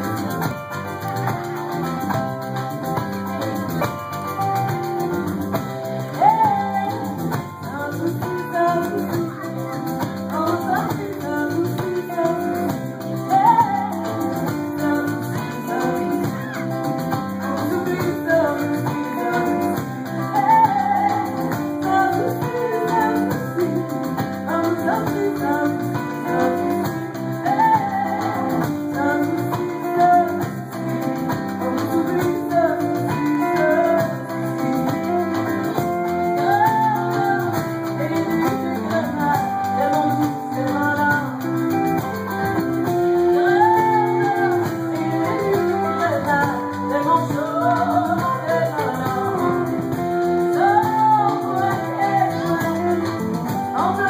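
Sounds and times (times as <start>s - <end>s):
drums: 0.0s - 54.0s
electric guitar: 0.0s - 54.0s
strummed guitars: 0.0s - 54.0s
woman singing: 4.6s - 54.0s.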